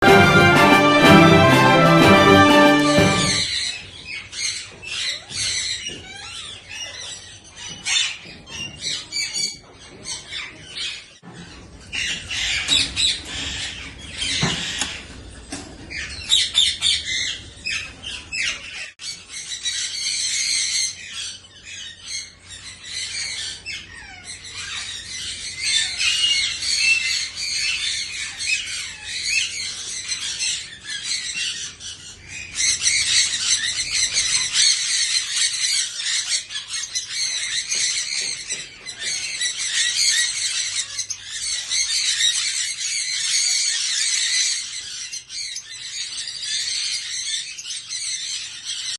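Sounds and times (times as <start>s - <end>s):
parrots chattering and squawking: 3.6s - 48.9s.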